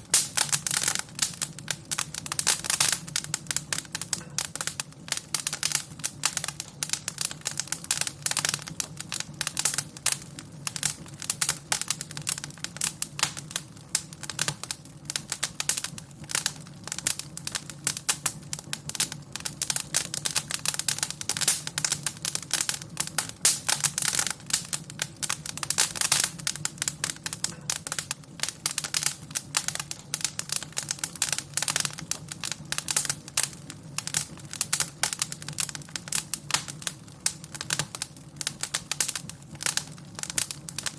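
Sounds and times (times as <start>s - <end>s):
fire crackling and popping: 0.0s - 40.9s
low fire rumble: 0.0s - 40.9s.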